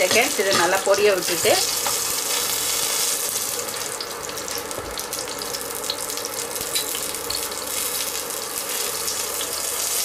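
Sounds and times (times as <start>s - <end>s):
hot oil sizzling with spices: 0.0s - 10.0s.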